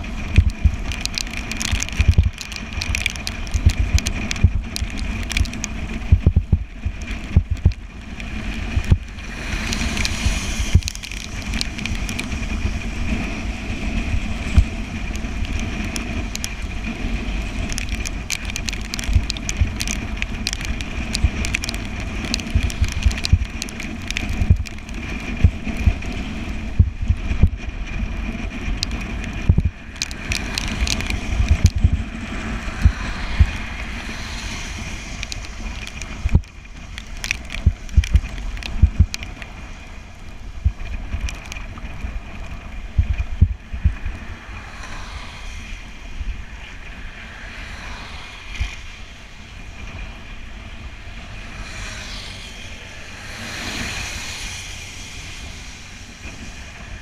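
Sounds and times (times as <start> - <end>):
bicycle tyre noise: 0.0 - 57.0
wind rumbling on microphone: 0.0 - 57.0.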